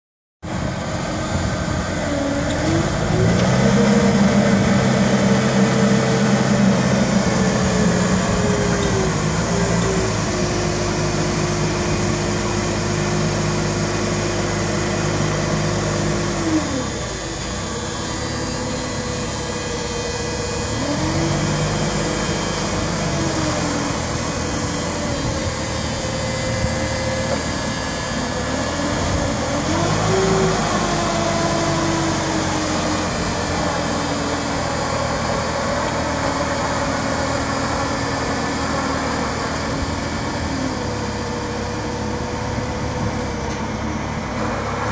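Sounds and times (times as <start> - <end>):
forklift engine revving: 0.5 - 44.9.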